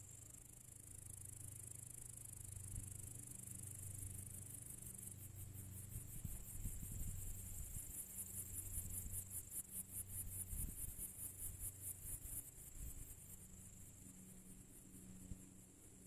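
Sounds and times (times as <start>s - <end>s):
crickets chirping: 0.0s - 16.0s
faint low hum: 0.0s - 16.0s.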